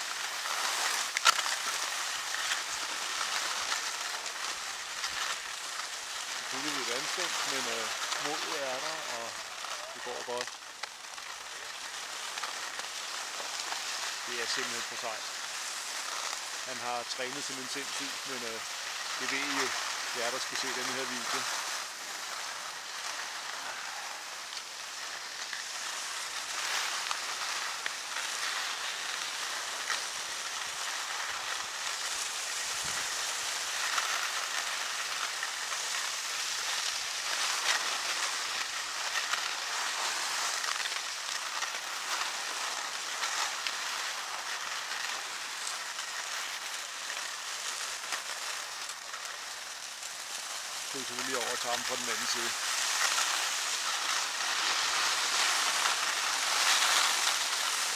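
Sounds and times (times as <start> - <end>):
skis scraping on snow: 0.0 - 57.9.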